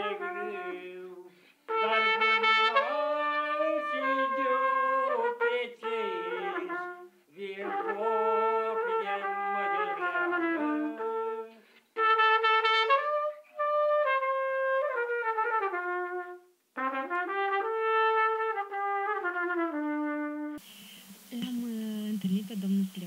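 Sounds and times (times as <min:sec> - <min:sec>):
solo trumpet melody: 0:00.0 - 0:21.8.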